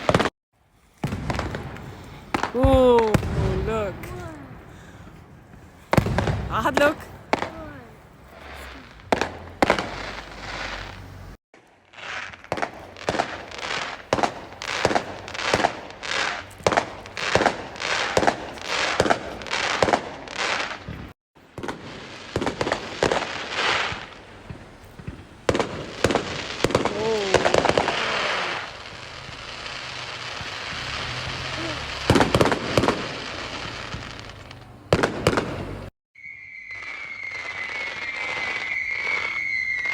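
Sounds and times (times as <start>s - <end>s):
fireworks bangs with echo: 0.0s - 39.9s.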